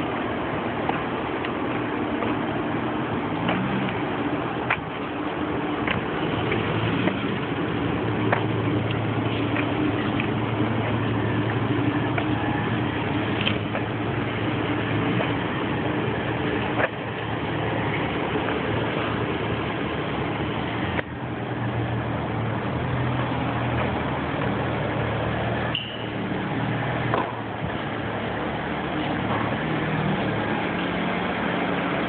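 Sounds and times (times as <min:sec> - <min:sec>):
car engine running low: 0:00.0 - 0:32.0
car wash machine noise: 0:00.0 - 0:32.0.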